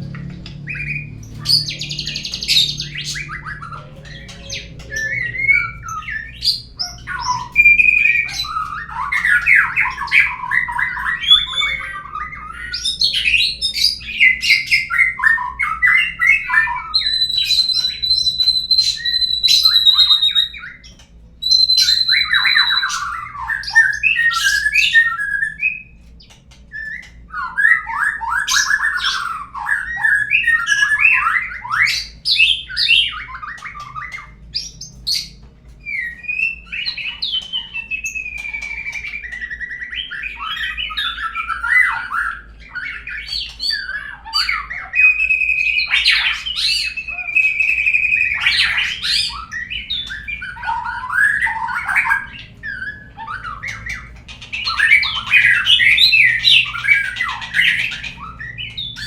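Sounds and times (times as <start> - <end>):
songbird trills and whistles: 0.4 - 59.0.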